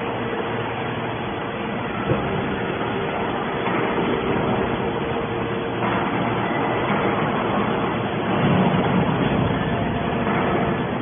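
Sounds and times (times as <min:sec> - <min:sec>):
hydraulic baler drone: 0:00.0 - 0:11.0.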